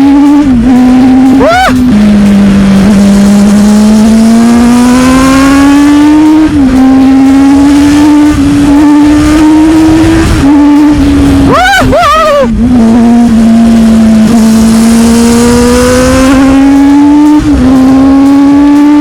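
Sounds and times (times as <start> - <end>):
motorcycle engine revving: 0.0 - 19.0
wind and road noise: 0.0 - 19.0.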